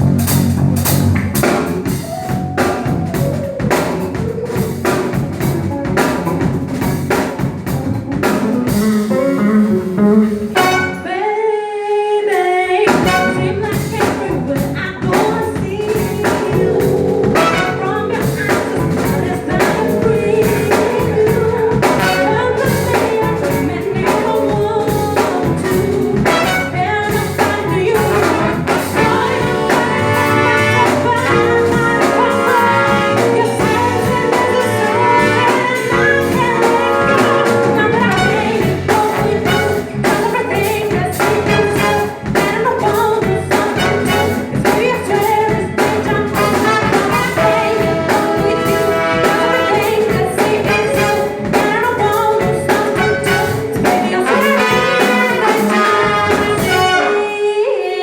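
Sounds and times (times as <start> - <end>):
funk band playing live: 0.0 - 11.4, 12.3 - 58.0
person singing: 8.7 - 58.0.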